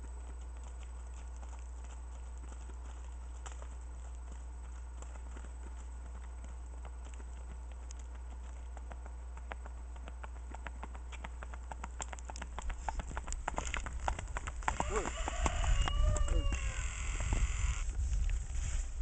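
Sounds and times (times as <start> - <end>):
hoofbeats on gravel: 0.0 - 19.0
hoofbeats on pavement: 0.0 - 19.0
steady low rumble: 0.0 - 19.0.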